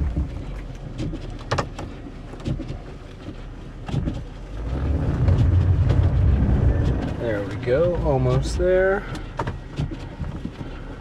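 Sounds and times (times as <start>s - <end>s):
van engine running low: 0.0s - 11.0s.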